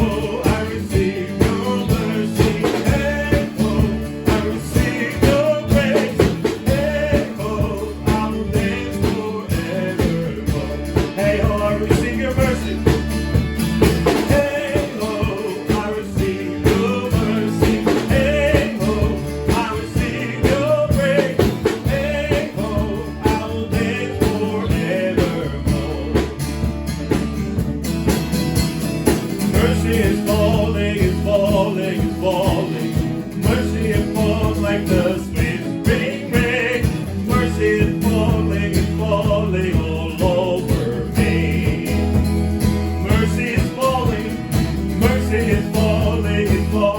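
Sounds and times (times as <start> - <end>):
person singing: 0.0 - 13.0, 14.2 - 26.4, 29.6 - 42.2, 43.0 - 44.4, 45.0 - 46.9
bass line: 0.0 - 46.9
guitar: 0.0 - 46.9.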